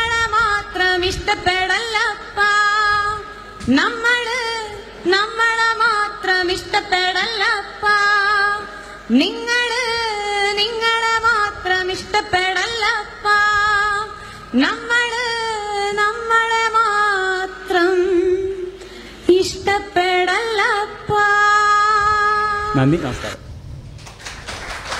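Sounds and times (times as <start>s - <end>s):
woman singing unaccompanied: 0.0s - 22.8s.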